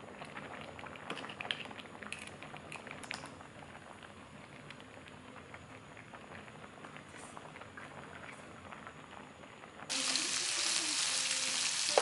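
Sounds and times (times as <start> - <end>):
soup bubbling at a boil: 0.0 - 12.0.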